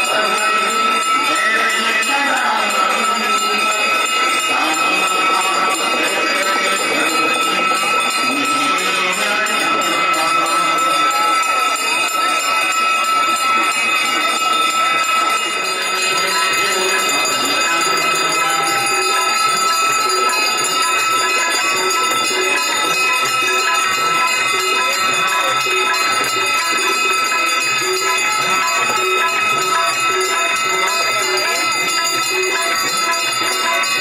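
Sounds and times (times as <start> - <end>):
hand bells ringing: 0.0 - 34.0.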